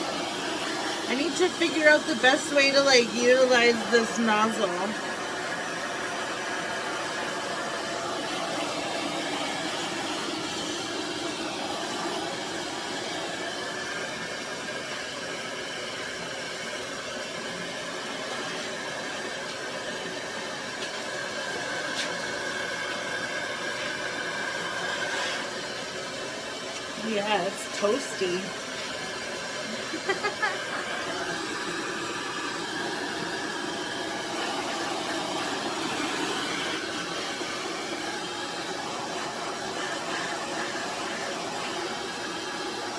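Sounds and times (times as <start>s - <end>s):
blow dryer running: 0.0s - 42.9s.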